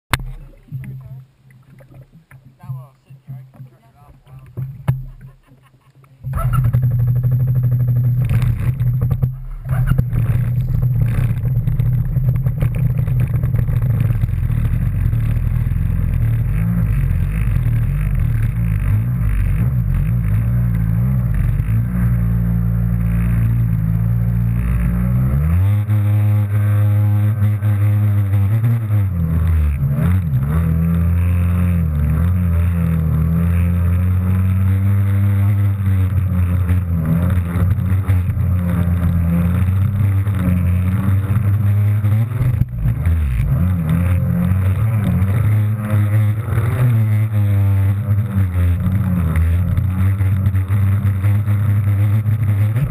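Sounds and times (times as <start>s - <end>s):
jet ski engine running hard: 6.2s - 52.9s.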